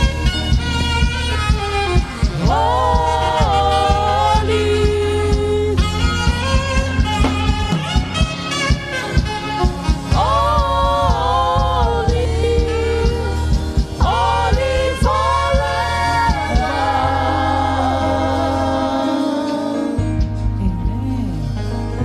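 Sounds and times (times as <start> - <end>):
drum beat: 0.0 - 19.6
bass line: 0.0 - 22.0
voices singing gospel: 1.2 - 8.0, 8.9 - 21.4.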